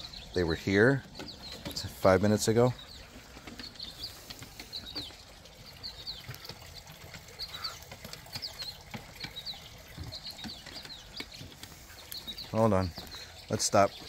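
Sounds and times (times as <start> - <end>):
small birds chirping: 0.0 - 14.0
faint taps and rustles: 1.0 - 5.4, 6.0 - 14.0.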